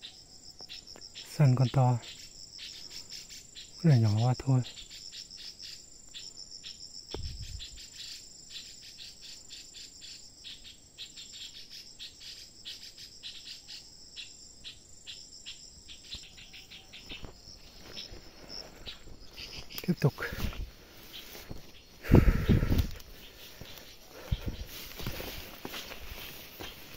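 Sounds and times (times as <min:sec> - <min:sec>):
insects chirping: 0:00.0 - 0:26.9.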